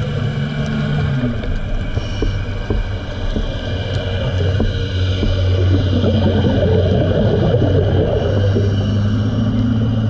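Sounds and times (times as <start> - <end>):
motorboat engine underwater: 0.0 - 10.0.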